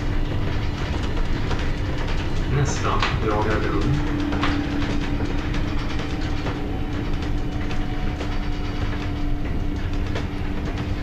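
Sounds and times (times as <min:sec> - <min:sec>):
bus engine and tyres rumbling: 0:00.0 - 0:11.0
light rattles: 0:00.0 - 0:11.0
steady whining tone: 0:00.0 - 0:11.0.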